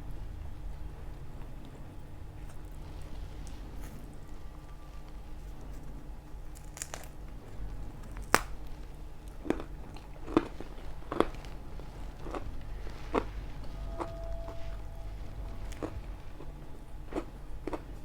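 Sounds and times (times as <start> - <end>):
low steady hum: 0.0 - 18.0
pizza chewing: 0.8 - 18.0
crust crunching: 2.4 - 17.9.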